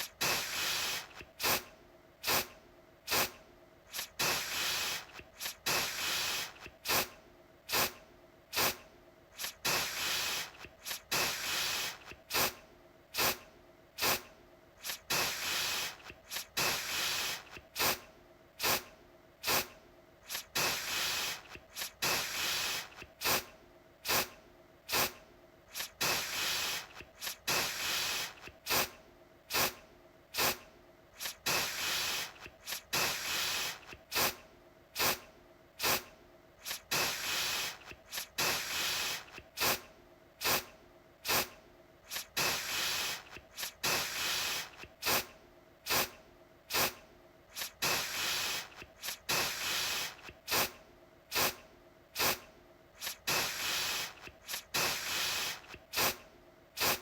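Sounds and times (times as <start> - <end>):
aerosol can spraying: 0.0 - 2.5, 3.1 - 8.8, 9.4 - 12.6, 13.2 - 13.4, 14.0 - 18.0, 18.6 - 29.8, 30.4 - 30.6, 31.2 - 34.4, 35.0 - 35.2, 35.8 - 41.5, 42.1 - 45.3, 45.9 - 51.6, 52.2 - 52.4, 53.0 - 56.2, 56.8 - 57.0.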